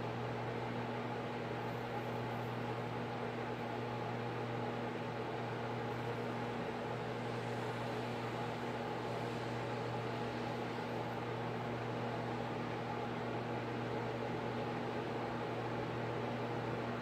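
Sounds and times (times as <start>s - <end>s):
appliance hum: 0.0s - 17.0s.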